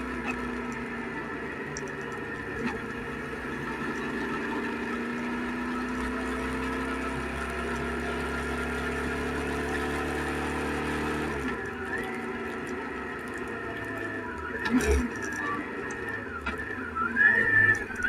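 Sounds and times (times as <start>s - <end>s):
motorcycle engine running under load: 0.0s - 18.0s.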